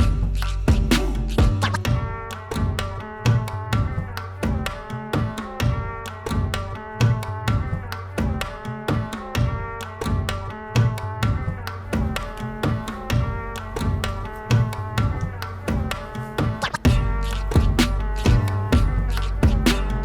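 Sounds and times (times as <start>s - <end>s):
background music with drum beat: 0.0s - 20.0s.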